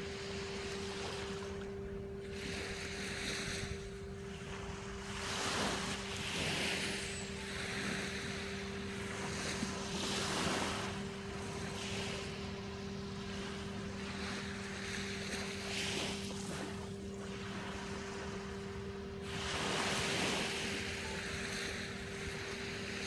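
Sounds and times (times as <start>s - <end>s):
small waves washing onto beach: 0.0s - 23.0s
steady low hum: 0.0s - 23.0s.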